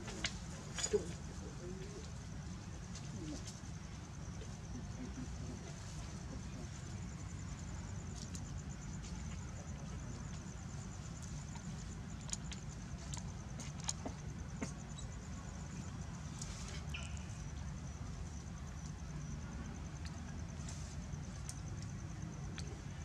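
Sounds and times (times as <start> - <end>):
insect trill: 0.0 - 23.0.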